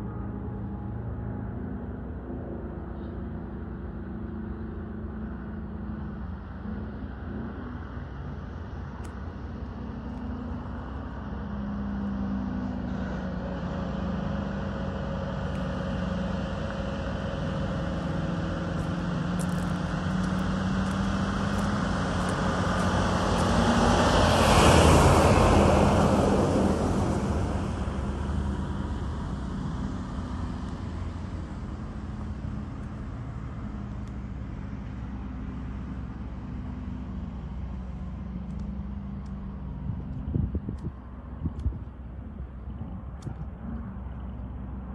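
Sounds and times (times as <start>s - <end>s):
truck engine driving past: 0.0s - 44.9s
tyre and road noise: 0.0s - 44.9s.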